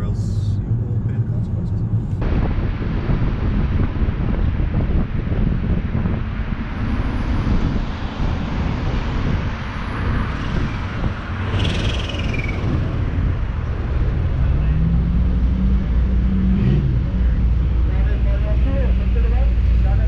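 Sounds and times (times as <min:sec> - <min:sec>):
car engine and road noise: 0:00.0 - 0:20.0
wind buffeting microphone: 0:01.6 - 0:20.0.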